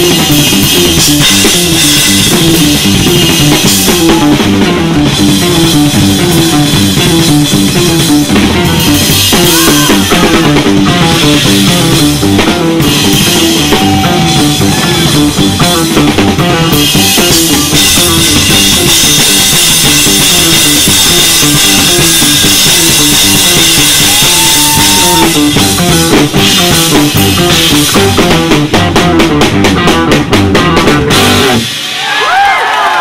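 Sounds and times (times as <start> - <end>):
drum kit played hard: 0.0 - 32.7
guitar: 0.0 - 33.0.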